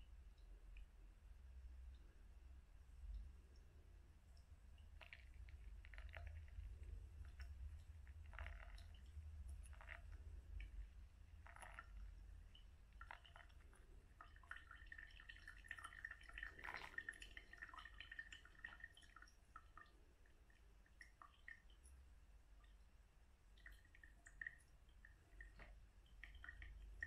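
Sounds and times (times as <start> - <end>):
water trickling onto coffee grounds: 2.9 - 27.0.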